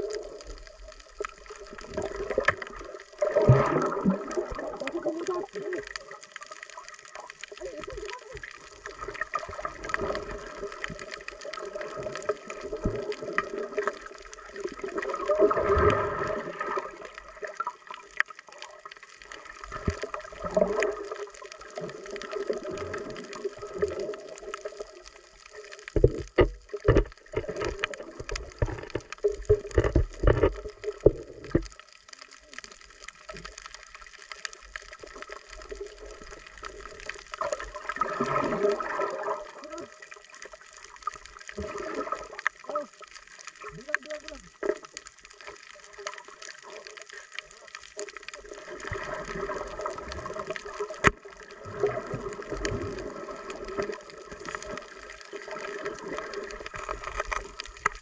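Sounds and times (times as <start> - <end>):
water sloshing underwater: 0.0 - 58.0.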